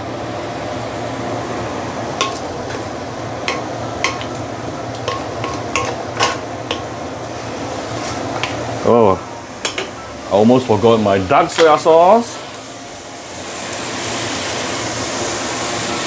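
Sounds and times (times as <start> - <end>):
chicken sizzling in a wok: 0.5 - 16.0.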